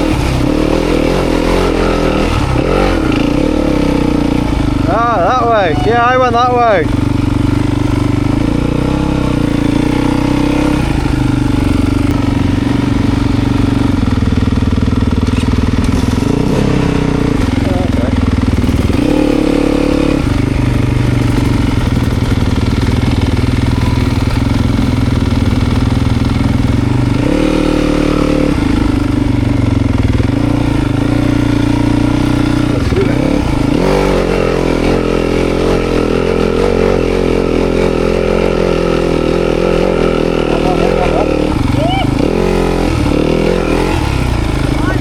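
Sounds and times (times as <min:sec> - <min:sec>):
off-road motorcycle engine: 0:00.0 - 0:45.0.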